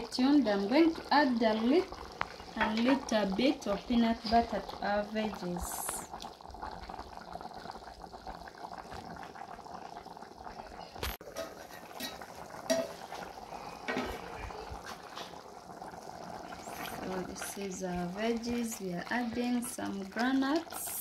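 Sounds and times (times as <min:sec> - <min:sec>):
pot simmering with bubbling: 0:00.0 - 0:21.0.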